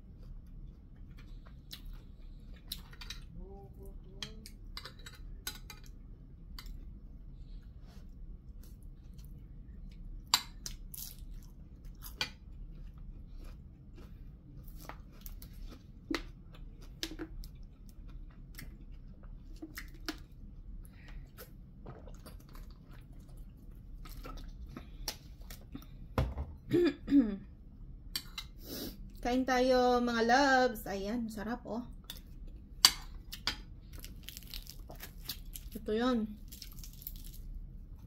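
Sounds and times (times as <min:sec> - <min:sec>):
chewing and crunching food: 0:00.0 - 0:26.1, 0:31.8 - 0:38.0
low steady hum: 0:00.0 - 0:38.0.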